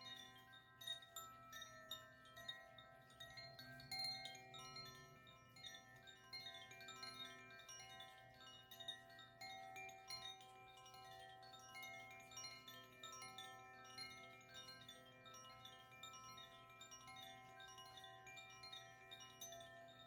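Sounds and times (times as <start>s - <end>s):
bamboo wind chimes ringing: 0.0s - 20.0s.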